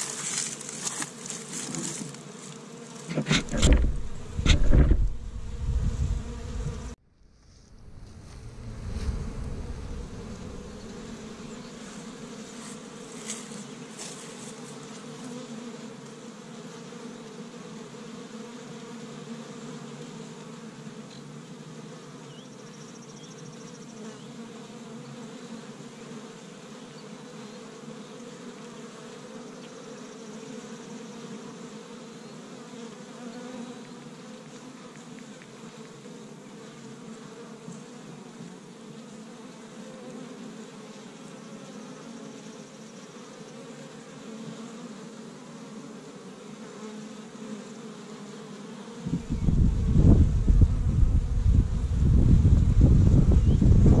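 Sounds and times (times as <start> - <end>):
honey bees buzzing: 0.0 - 54.0.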